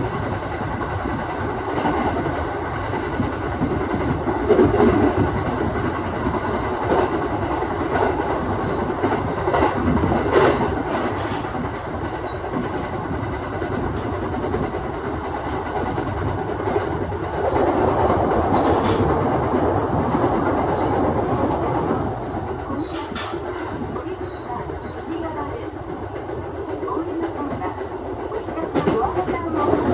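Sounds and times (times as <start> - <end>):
train running rumble: 0.0 - 29.9.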